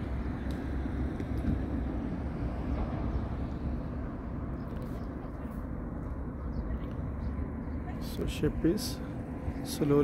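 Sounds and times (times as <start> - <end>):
outdoor rumble and hiss: 0.0 - 10.0.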